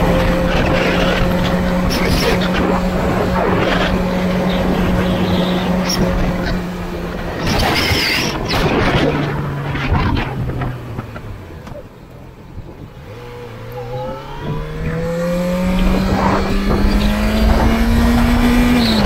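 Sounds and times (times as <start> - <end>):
wind rush: 0.0 - 11.4, 12.5 - 19.0
motorcycle engine running: 0.0 - 19.0.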